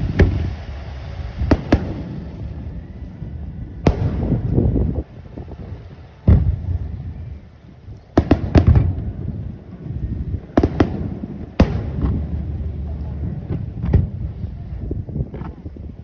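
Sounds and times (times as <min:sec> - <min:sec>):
low rumble of detonations: 0:00.0 - 0:16.0.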